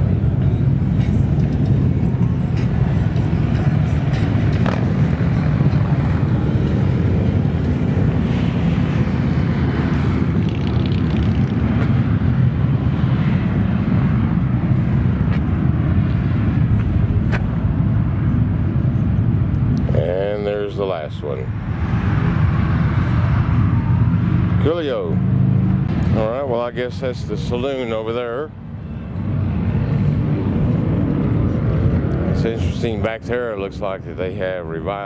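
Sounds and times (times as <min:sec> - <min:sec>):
highway traffic rumble: 0:00.0 - 0:35.0
motorcycles: 0:00.0 - 0:35.0
vehicles passing: 0:00.0 - 0:35.0.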